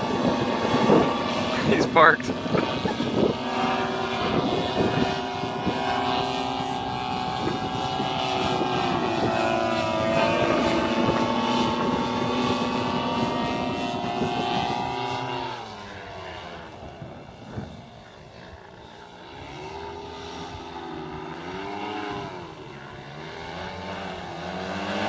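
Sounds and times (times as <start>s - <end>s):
paramotor engine flying past: 0.0s - 25.0s.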